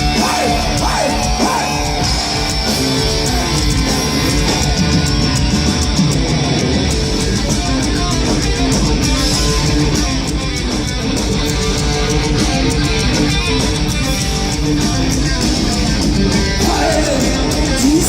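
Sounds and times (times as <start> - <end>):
heavy metal band playing: 0.0 - 18.0.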